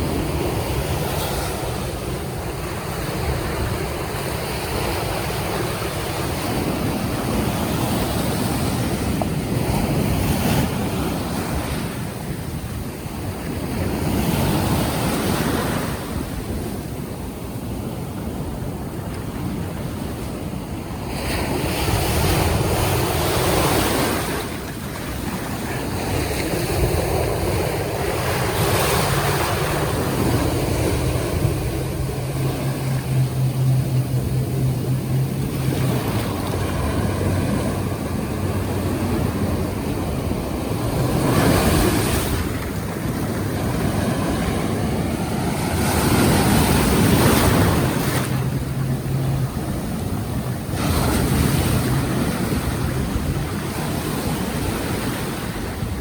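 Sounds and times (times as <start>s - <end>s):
boat engine humming: 0.0s - 56.0s
wind buffeting microphone: 0.0s - 56.0s.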